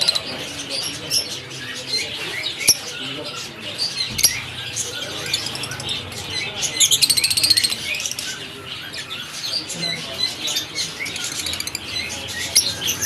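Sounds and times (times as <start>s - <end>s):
lovebirds chirping and chattering: 0.0s - 13.0s.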